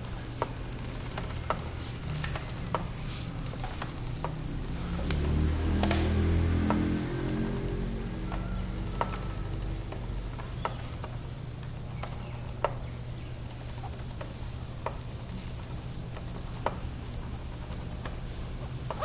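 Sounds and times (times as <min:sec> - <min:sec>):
faint ticks: 0:00.0 - 0:19.0
rotating wheel clicking: 0:00.0 - 0:19.0
steady low hum: 0:00.0 - 0:19.0.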